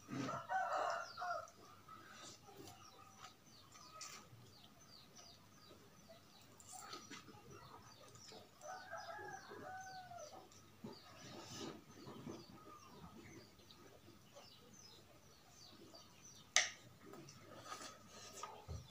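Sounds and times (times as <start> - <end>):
small birds chirping: 0.0 - 18.9
chickens clucking: 1.6 - 18.9.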